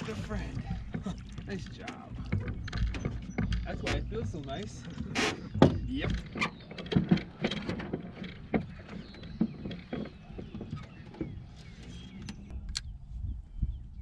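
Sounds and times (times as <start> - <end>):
knocks and clicks of gear: 0.4 - 12.9.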